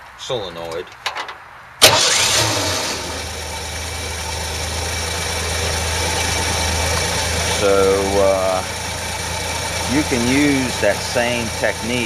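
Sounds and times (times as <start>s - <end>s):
car engine starting and idling: 1.8s - 12.0s.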